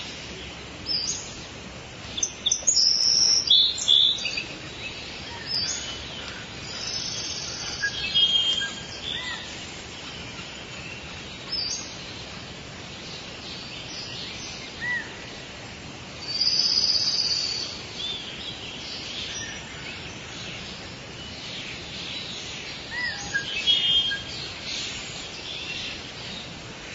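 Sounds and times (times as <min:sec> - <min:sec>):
bird calls and chirps: 0:00.0 - 0:15.5, 0:16.2 - 0:26.9
steady background hiss: 0:00.0 - 0:26.9.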